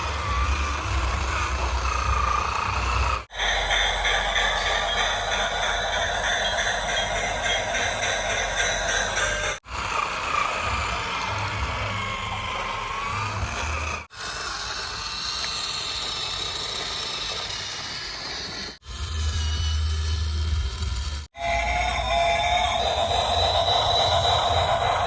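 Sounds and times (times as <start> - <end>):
toy electric motors whining: 0.0 - 25.0.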